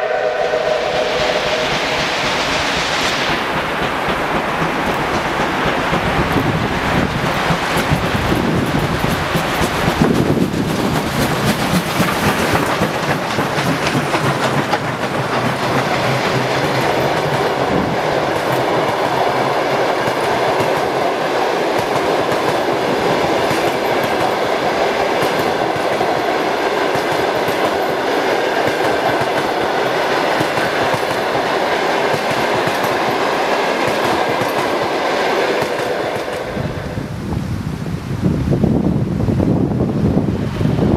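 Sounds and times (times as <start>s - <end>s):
train wheels clattering on rails: 0.7s - 37.0s.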